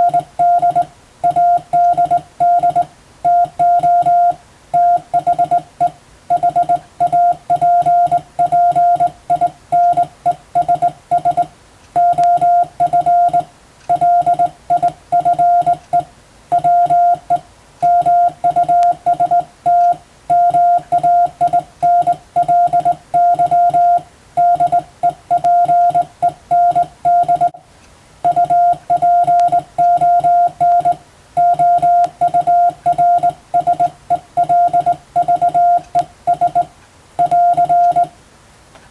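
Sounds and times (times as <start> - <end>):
morse code tone: 0.0 - 27.6, 28.2 - 38.2.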